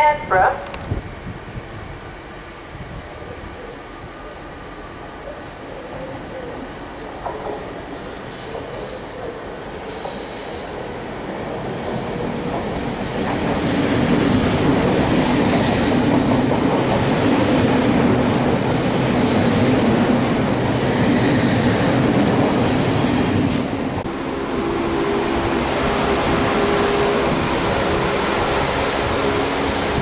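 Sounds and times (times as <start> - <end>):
train moving on tracks: 0.0 - 30.0.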